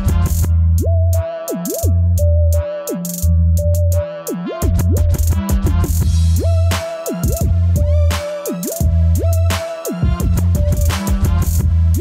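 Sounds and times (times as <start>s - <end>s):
hi-hats: 0.0s - 0.5s, 1.2s - 2.0s, 2.8s - 12.0s
heavy bass: 0.0s - 12.0s
hip hop instrumental beat: 0.0s - 12.0s.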